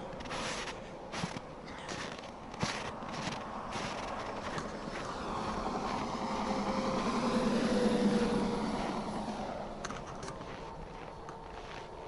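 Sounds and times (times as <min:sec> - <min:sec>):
semi truck passing: 0:00.3 - 0:12.0.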